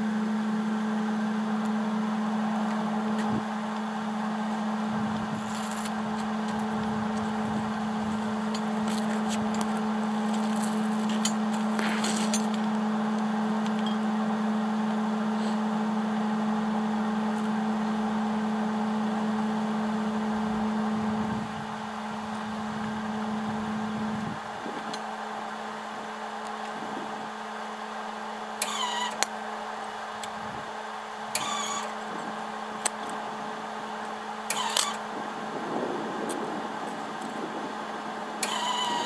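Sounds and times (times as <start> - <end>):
arc welder hum: 0.0 - 35.5, 38.3 - 39.0.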